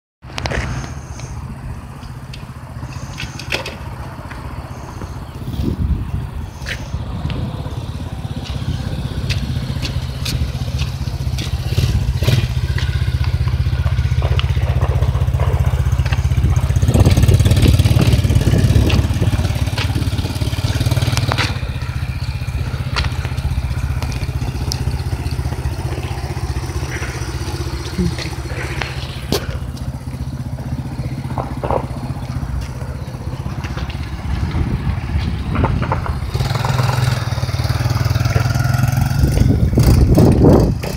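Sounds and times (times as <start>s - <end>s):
engine running at low revs: 0.2s - 40.9s.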